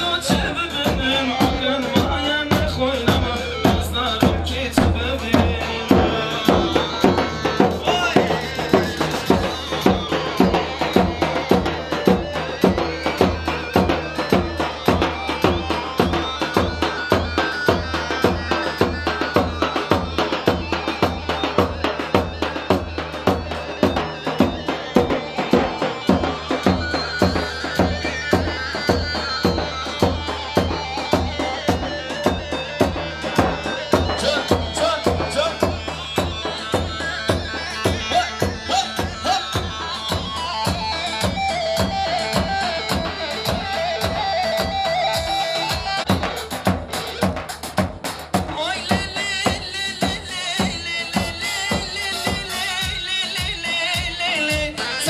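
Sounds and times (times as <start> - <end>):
driving drum beat: 0.0 - 55.0
keyboard lead melody: 0.0 - 55.0.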